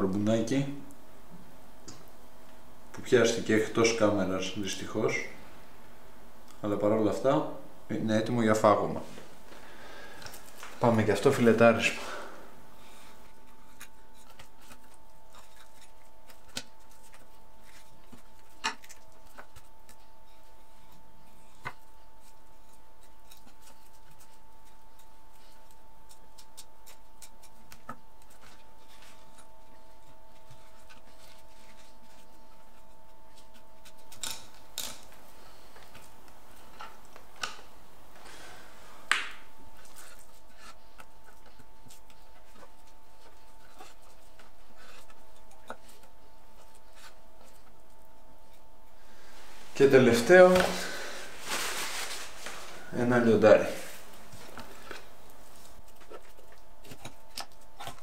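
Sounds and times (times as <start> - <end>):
steady high hum: 0.0 - 58.0.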